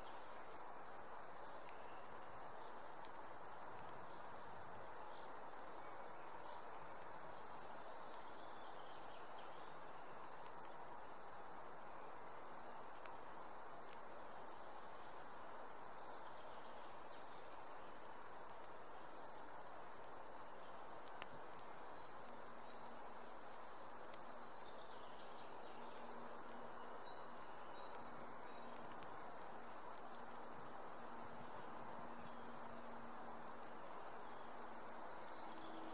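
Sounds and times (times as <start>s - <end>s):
steady soft hiss: 0.0s - 35.9s.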